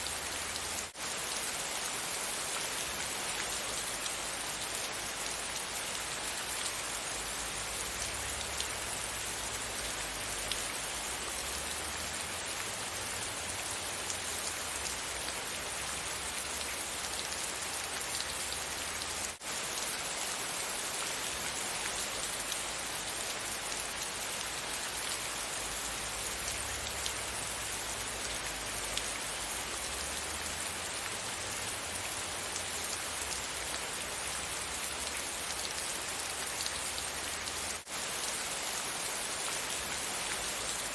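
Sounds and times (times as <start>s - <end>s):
rain hissing on a surface: 0.0s - 40.9s.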